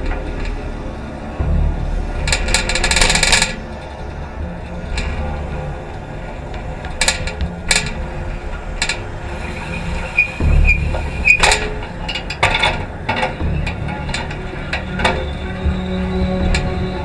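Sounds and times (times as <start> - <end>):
bicycle rattling and clanking: 0.0 - 17.0
low rumble of riding: 0.0 - 17.0
bicycle squeaks: 2.3 - 16.0.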